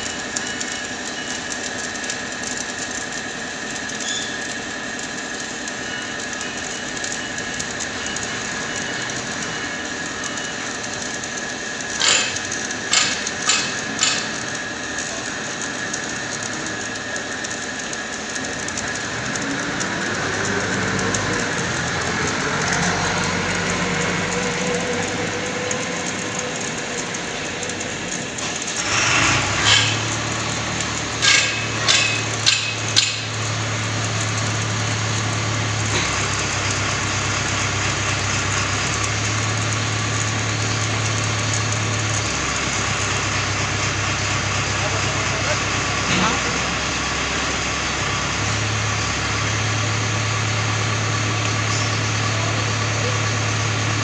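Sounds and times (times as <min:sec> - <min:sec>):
motor hum rising in pitch: 0:00.0 - 0:54.0
welding arc crackling hiss: 0:00.0 - 0:54.0
low engine drone: 0:05.8 - 0:54.0.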